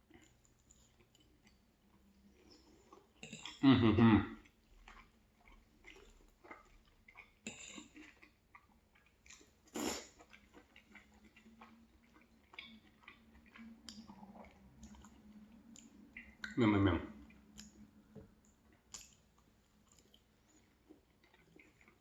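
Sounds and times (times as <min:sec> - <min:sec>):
chewing food: 0:00.0 - 0:22.0.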